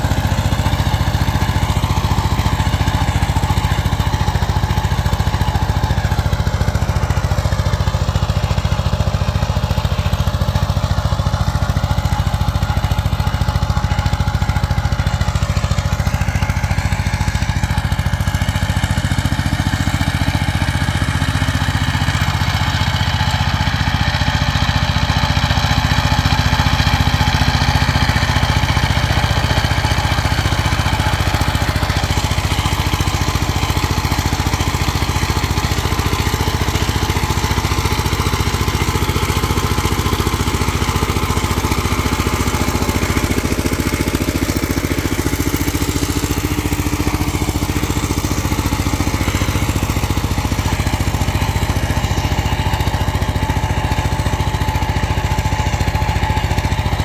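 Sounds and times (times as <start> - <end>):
diesel tiller engine running: 0.0 - 57.0.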